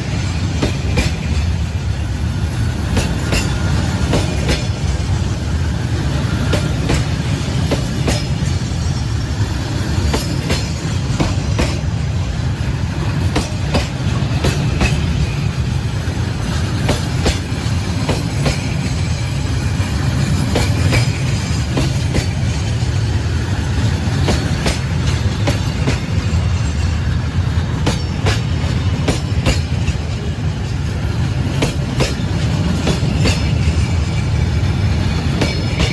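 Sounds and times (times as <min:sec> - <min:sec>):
freight train rumbling on rails: 0:00.0 - 0:35.9.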